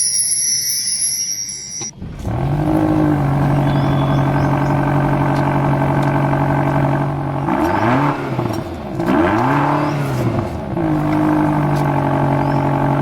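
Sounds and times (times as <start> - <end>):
cartoon vehicle engine revving: 2.0 - 13.0.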